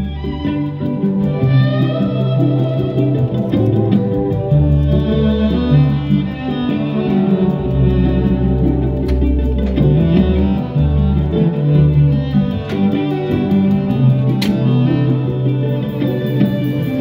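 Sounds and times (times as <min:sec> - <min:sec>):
muffled live band music: 0:00.0 - 0:17.0.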